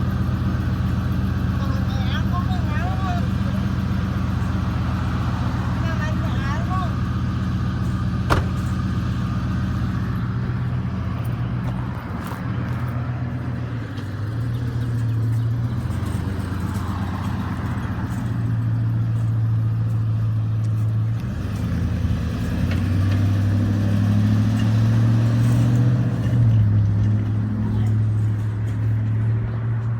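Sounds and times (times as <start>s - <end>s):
truck engine idling: 0.0s - 29.9s.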